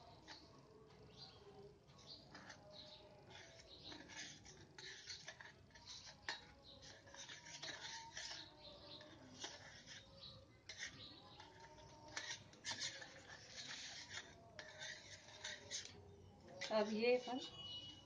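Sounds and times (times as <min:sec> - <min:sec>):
spoon scraping ceramic bowl: 0:02.1 - 0:18.0.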